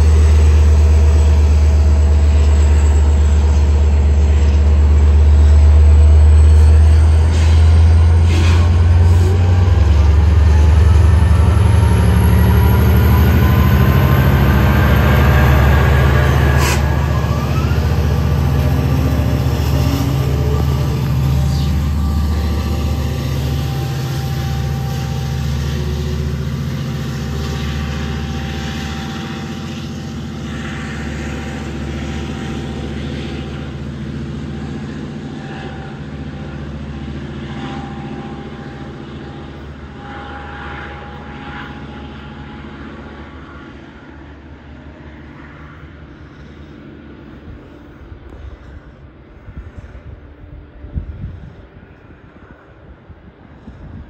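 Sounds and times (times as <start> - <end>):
diesel train engine drone: 0.0 - 54.0.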